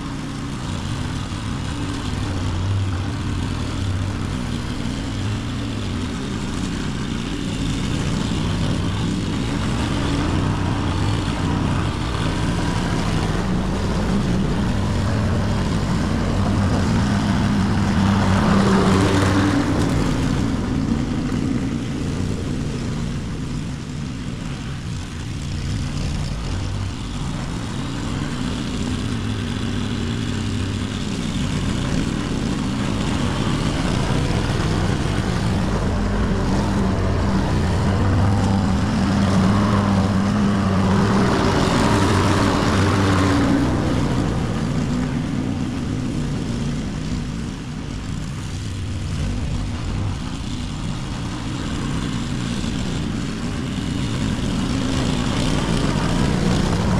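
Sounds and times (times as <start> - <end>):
lawn mower engine cutting grass: 0.0 - 56.9.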